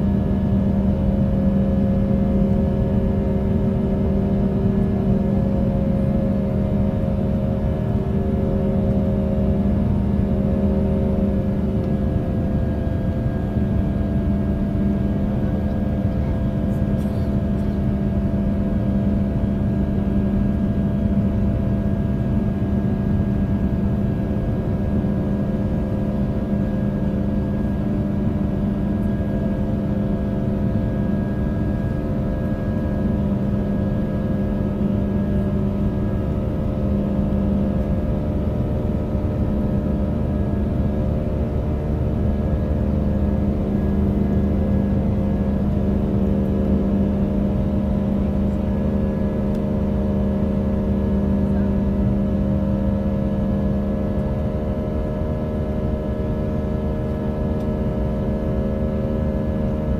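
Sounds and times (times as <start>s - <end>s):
jet engine drone: 0.0s - 59.9s
low hum of steady tones: 0.0s - 59.9s.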